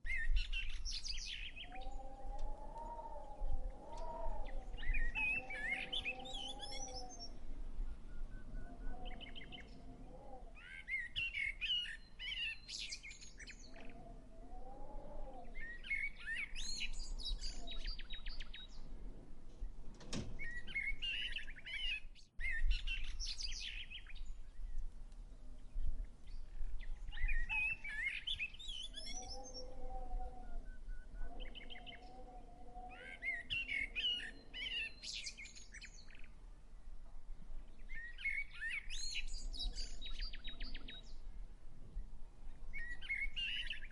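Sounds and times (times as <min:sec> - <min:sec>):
low drawn-out bird calls: 0:00.0 - 0:19.0, 0:19.6 - 0:24.8, 0:25.5 - 0:36.4, 0:37.6 - 0:43.9
songbirds warbling and chirping: 0:00.0 - 0:43.9.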